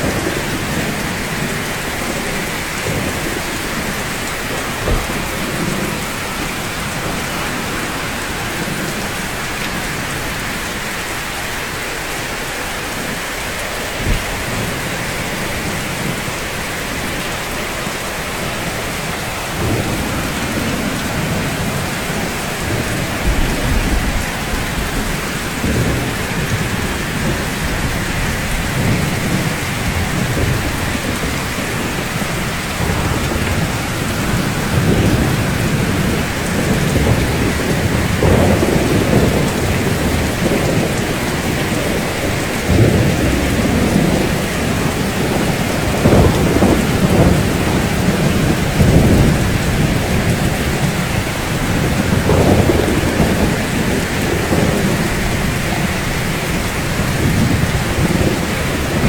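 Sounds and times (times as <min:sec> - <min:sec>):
low thunder rumbling: 0:00.0 - 0:59.0
steady rain falling: 0:00.0 - 0:59.0.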